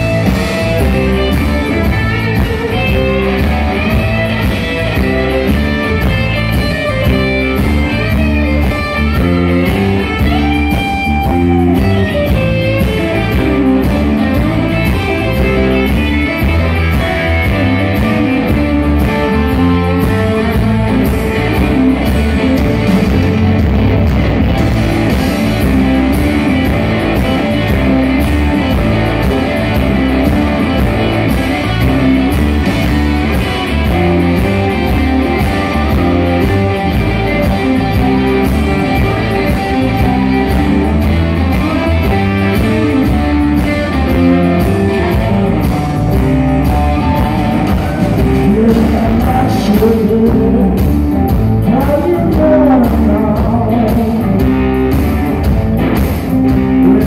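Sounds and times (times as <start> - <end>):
blues-rock band playing: 0.0 - 57.0.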